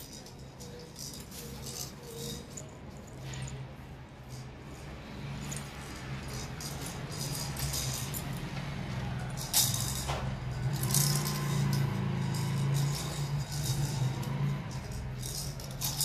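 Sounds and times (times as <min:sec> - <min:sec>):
glass bangles jingling: 0:00.0 - 0:16.0.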